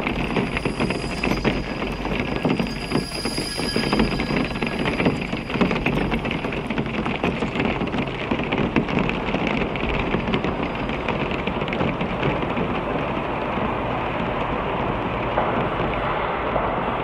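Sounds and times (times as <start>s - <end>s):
low rumble: 0.0s - 17.0s
rain crackle and hiss: 0.0s - 17.0s.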